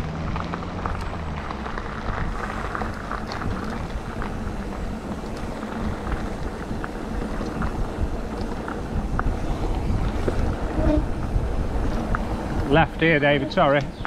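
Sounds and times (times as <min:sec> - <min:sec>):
bike rattles and stone ticks: 0:00.0 - 0:14.0
tyre noise on gravel: 0:00.0 - 0:14.0
wind on microphone: 0:02.0 - 0:14.0.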